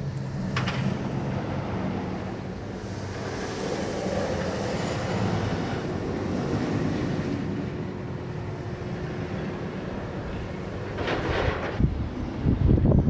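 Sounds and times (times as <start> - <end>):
roller coaster rumbling on track: 0.0 - 13.0.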